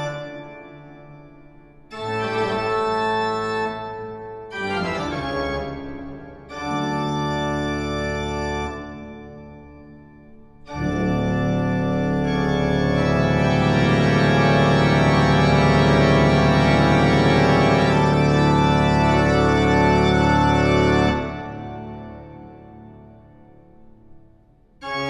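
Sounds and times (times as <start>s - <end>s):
organ chords: 0.0s - 25.0s.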